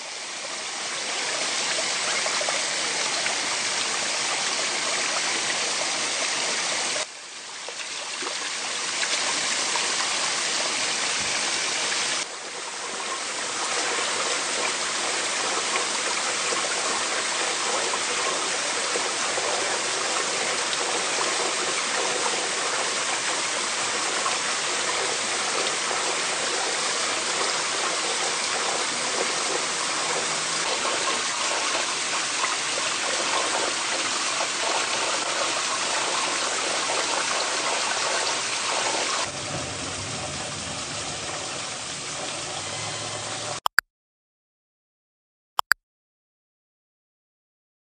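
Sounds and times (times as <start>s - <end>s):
stream rushing over rocks: 0.0s - 43.6s.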